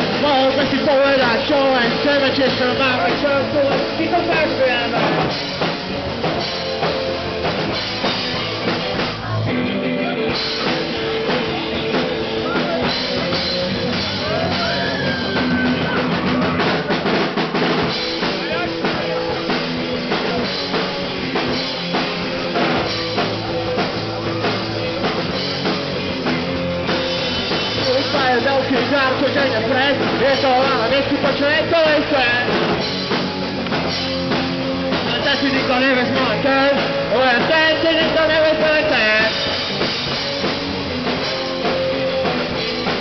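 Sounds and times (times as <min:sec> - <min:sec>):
drum kit: 0:00.0 - 0:43.0
electric guitars: 0:00.0 - 0:43.0.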